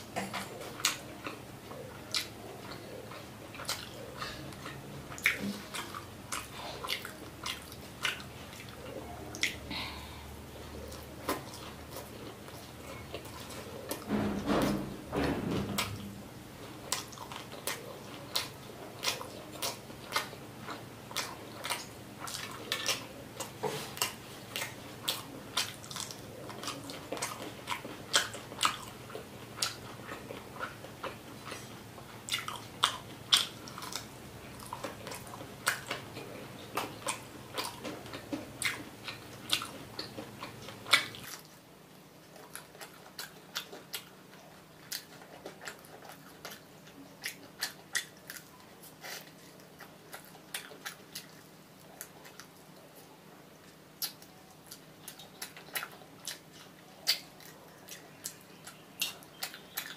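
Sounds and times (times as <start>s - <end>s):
chewing crisp food: 0.0s - 14.1s, 15.6s - 59.9s.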